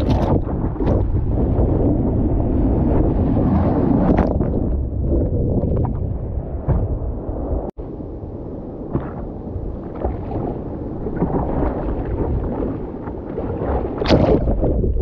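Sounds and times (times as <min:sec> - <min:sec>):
sea water sloshing and splashing: 0:00.0 - 0:06.1, 0:08.8 - 0:15.0
wind rumbling on microphone: 0:00.0 - 0:15.0.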